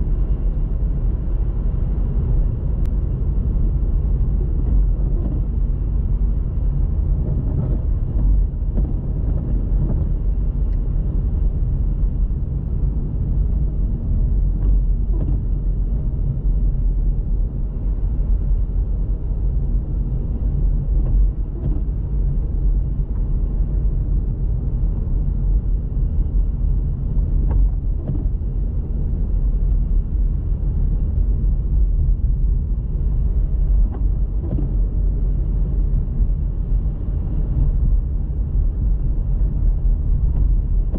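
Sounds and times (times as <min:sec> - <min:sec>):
car driving on snowy road: 0:00.0 - 0:40.9.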